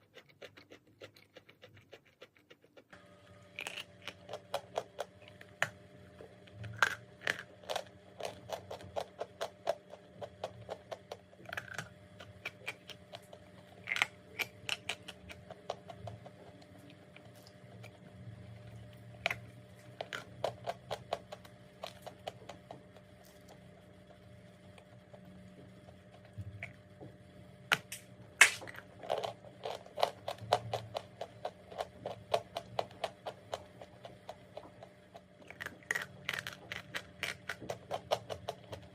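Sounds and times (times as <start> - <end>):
chewing crunchy chalk: 0.0 - 18.1, 18.8 - 26.8, 27.7 - 38.9.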